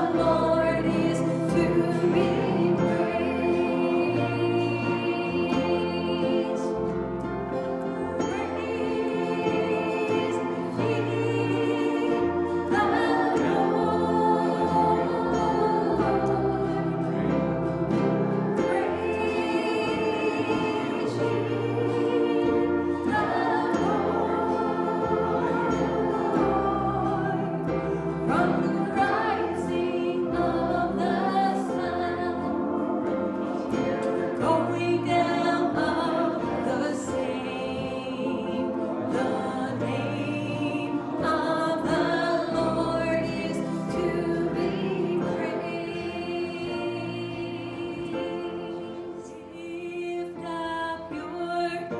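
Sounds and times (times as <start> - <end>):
group singing gospel song: 0.0 - 51.9
instrumental accompaniment: 0.0 - 51.9.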